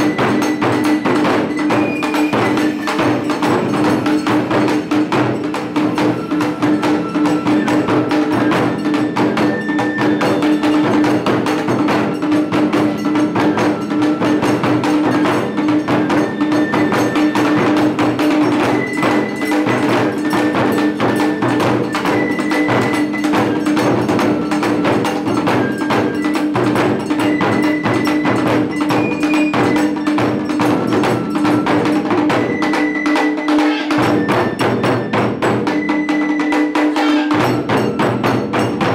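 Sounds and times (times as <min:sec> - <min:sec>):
taiko drum ensemble playing: 0:00.0 - 0:38.9.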